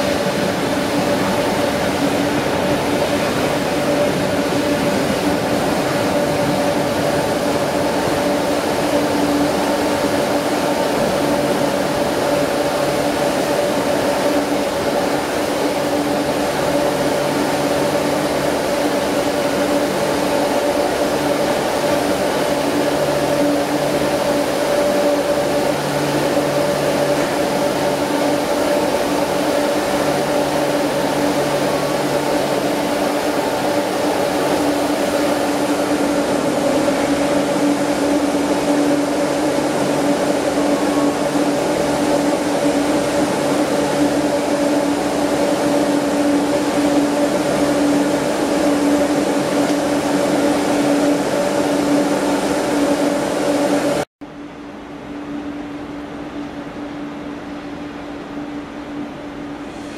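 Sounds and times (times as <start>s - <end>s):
train coaches rolling slowly: 0.0s - 54.0s
steady mechanical hum: 0.0s - 59.9s.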